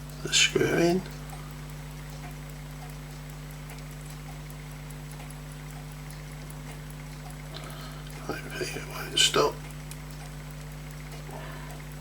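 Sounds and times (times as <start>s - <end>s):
pocket watch ticking: 0.0s - 12.0s
steady low hum: 0.0s - 12.0s.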